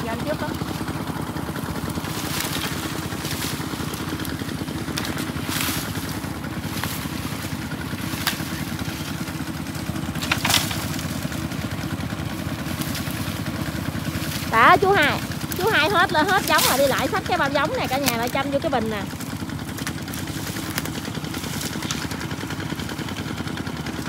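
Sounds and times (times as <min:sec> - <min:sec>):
dry branches crackling and scraping: 0:00.0 - 0:24.0
water pump engine running: 0:00.0 - 0:24.0.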